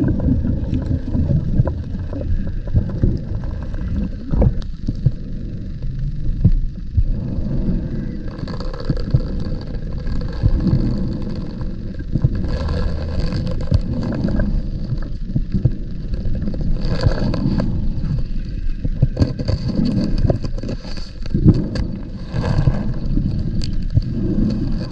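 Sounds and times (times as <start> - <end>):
gurgling exhaled bubbles: 0.0 - 24.9.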